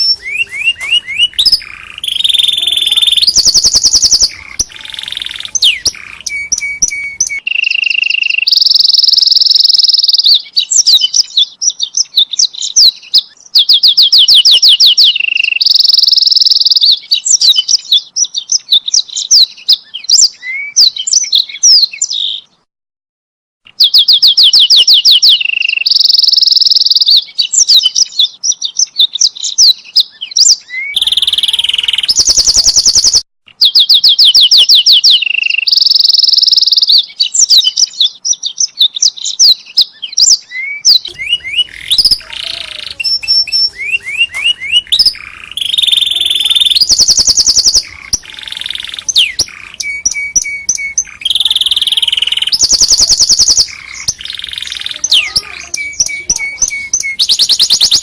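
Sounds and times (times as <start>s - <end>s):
canary singing: 0.0s - 22.6s, 23.7s - 58.0s.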